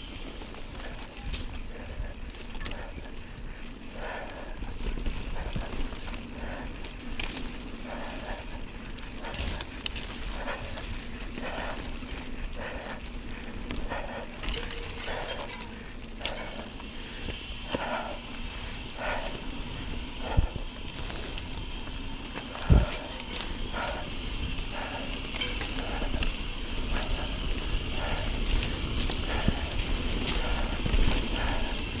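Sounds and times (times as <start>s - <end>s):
bike rattling over bumps: 0.0s - 32.0s
tyres on dirt and leaves: 0.0s - 32.0s.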